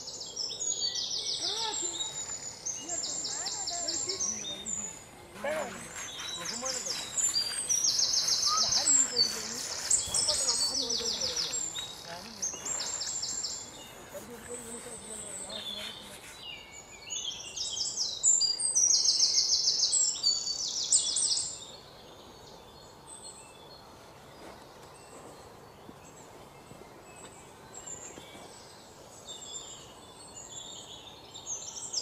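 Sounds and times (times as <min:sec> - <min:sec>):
birds chirping and singing: 0:00.0 - 0:32.0
soft outdoor hiss: 0:00.0 - 0:32.0.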